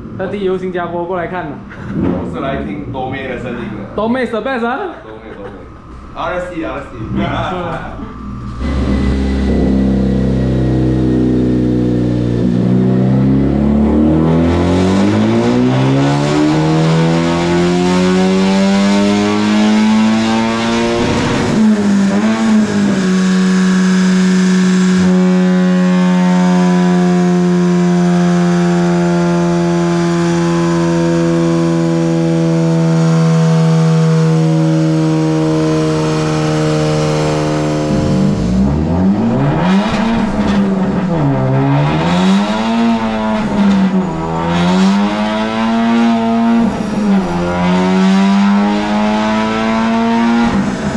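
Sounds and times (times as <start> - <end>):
car engine revving on dyno: 1.6 - 4.5, 5.7 - 50.9.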